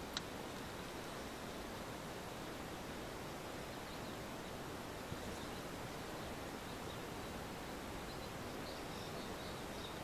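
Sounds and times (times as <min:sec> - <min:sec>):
steady hiss: 0:00.0 - 0:10.0
faint bird chirps: 0:00.8 - 0:04.6, 0:05.2 - 0:10.0.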